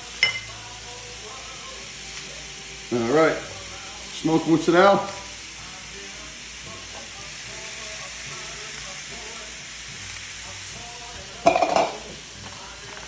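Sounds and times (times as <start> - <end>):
food sizzling in skillet: 0.0 - 13.0.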